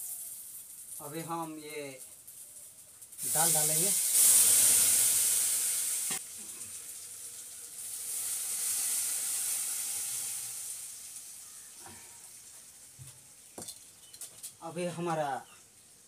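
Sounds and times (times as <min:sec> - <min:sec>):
dal poured into hot oil sizzling: 0:00.0 - 0:14.6
spices sizzling in hot oil: 0:00.0 - 0:16.0.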